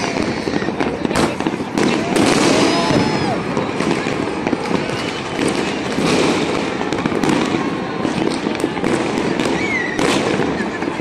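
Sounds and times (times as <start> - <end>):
fireworks crackling and rumbling: 0.0 - 11.0
sharp firecracker bangs: 0.0 - 11.0.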